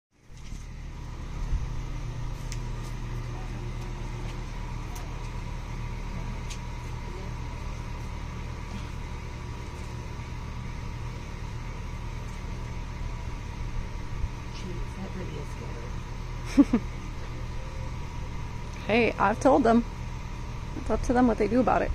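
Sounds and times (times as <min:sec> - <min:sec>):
low mechanical hum: 0:00.1 - 0:21.9
thin steady whine: 0:00.2 - 0:21.9.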